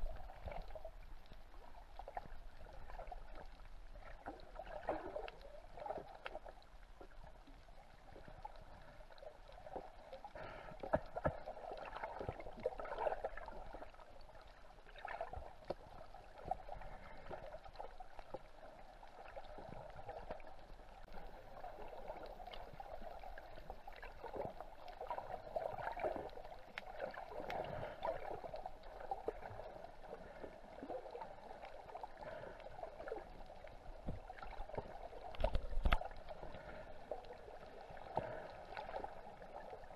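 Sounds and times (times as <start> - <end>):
muffled underwater rushing: 0.0 - 39.9
small clicks and crackles: 0.0 - 39.9.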